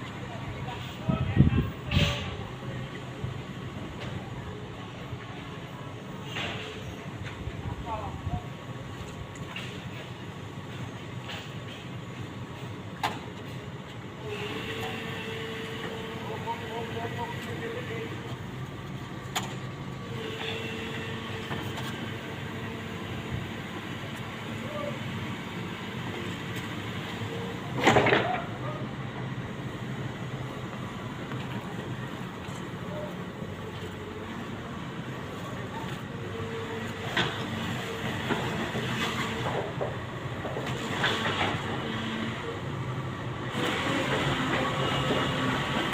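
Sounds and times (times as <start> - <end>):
excavator diesel engine running: 8.5 - 45.9.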